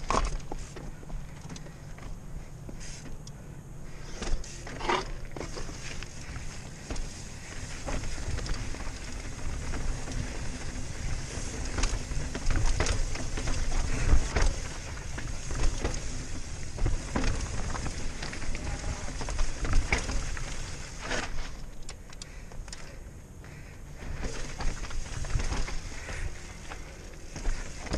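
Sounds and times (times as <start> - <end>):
tyres over rock and gravel: 0.0 - 2.2, 3.9 - 27.9
bike knocking and rattling: 0.0 - 27.9.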